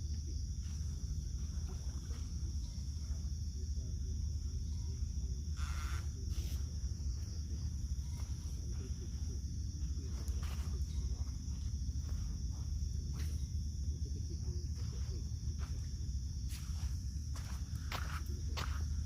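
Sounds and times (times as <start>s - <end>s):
constant low rumble: 0.0s - 19.0s
night insects chorus: 0.0s - 19.0s.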